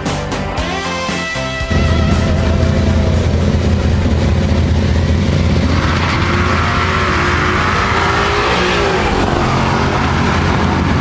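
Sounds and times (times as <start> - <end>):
car engine at full throttle: 1.7 - 11.0.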